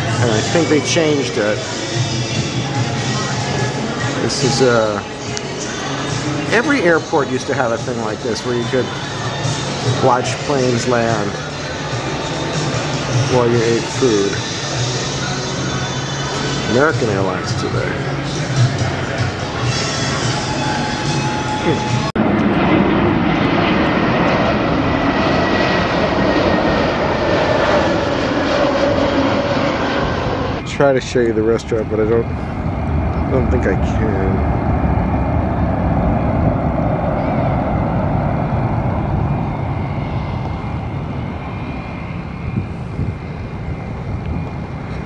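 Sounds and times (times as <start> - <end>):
high engine whine: 0.0 - 45.0
jet airliner flying low: 0.0 - 45.0.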